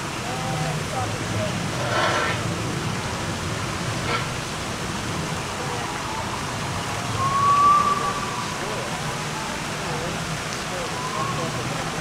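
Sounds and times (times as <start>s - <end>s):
distant voices: 0.0s - 12.0s
steady wash of crowd noise: 0.0s - 12.0s.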